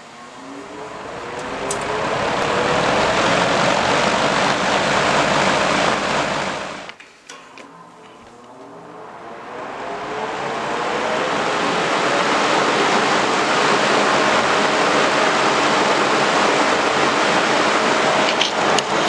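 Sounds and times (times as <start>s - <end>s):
fan blowing air: 0.0s - 19.0s
thin motor whine: 0.0s - 19.0s.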